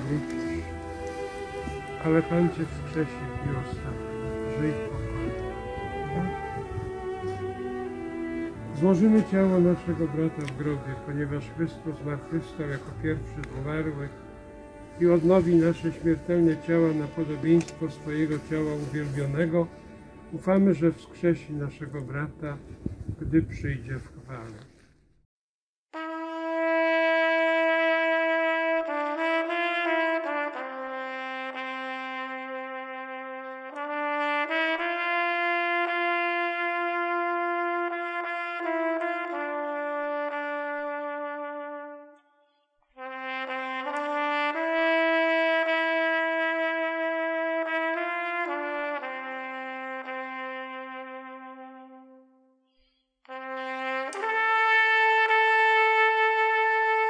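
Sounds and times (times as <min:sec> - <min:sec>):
solo trumpet melody: 0:00.0 - 0:22.7, 0:25.9 - 0:52.6, 0:53.2 - 0:57.0.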